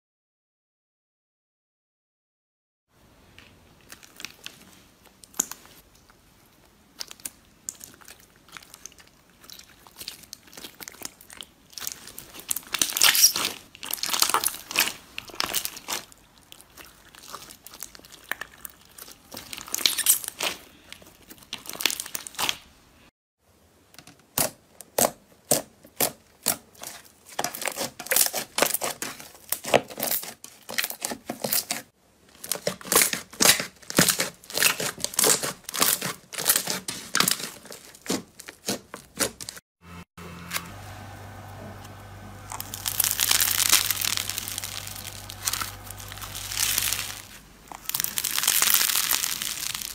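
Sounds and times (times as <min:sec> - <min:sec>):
slime squishing wet crackling: 0:03.4 - 0:22.8, 0:24.3 - 0:39.6, 0:42.5 - 0:49.9.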